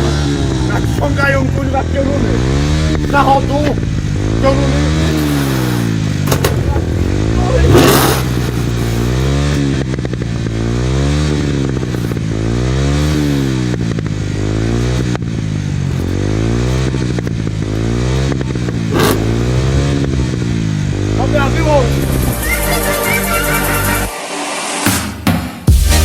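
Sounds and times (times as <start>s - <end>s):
motorcycle engine revving: 0.0s - 24.1s.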